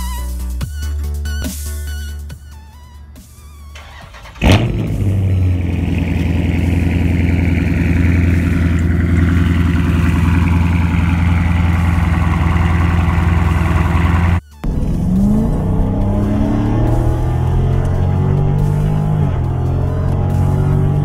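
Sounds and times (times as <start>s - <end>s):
car engine starting and idling: 3.1s - 21.0s.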